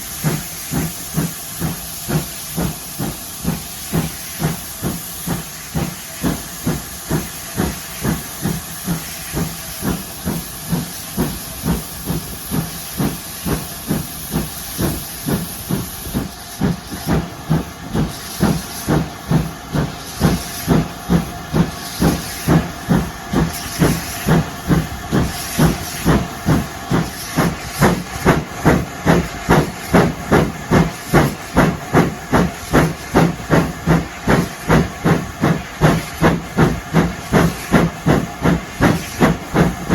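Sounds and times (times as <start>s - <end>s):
steady steam hiss: 0.0s - 39.9s
steam locomotive chuffing: 0.0s - 39.9s.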